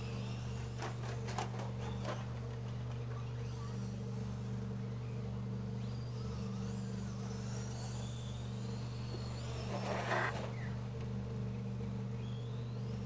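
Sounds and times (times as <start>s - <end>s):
rc car motors whining: 0.0s - 13.0s
steady low hum: 0.0s - 13.0s.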